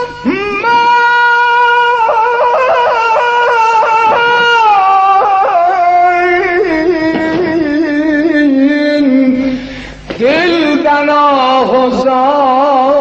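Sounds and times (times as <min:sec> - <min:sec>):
man singing high mourning song: 0:00.0 - 0:13.0.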